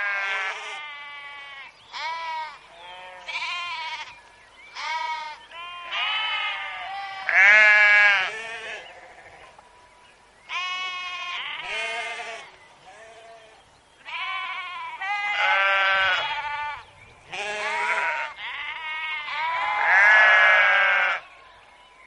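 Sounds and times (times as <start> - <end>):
sheep bleating: 0.0 - 9.4, 10.5 - 21.3.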